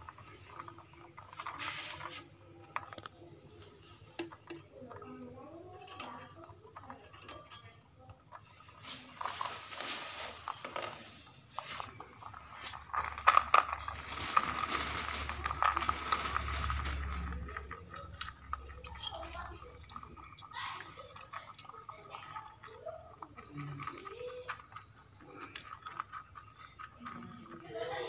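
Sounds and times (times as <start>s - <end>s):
rabbits rustling in wire cage: 0.0s - 28.0s.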